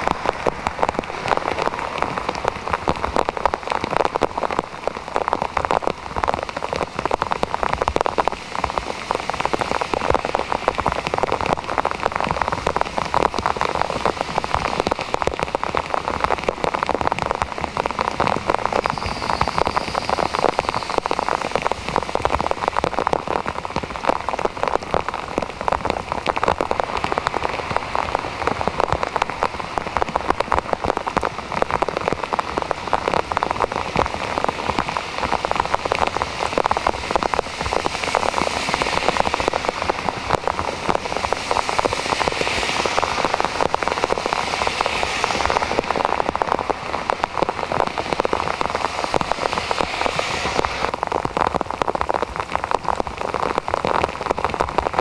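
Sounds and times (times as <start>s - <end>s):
heavy rain on flooded road: 0.0s - 55.0s.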